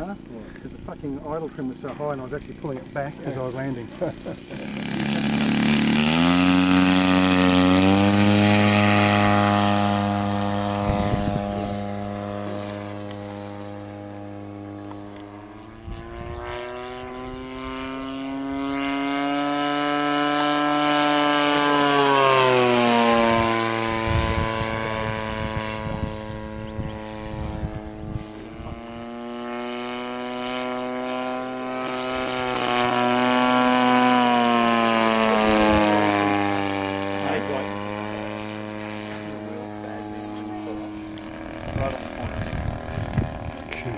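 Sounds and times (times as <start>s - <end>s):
model airplane engine flying past: 0.0s - 43.9s.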